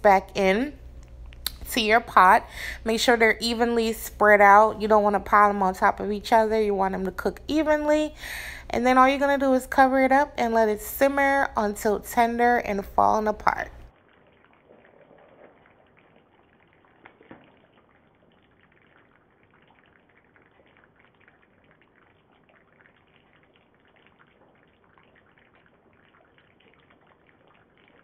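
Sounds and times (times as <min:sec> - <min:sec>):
gravy simmering crackle: 0:00.1 - 0:28.0.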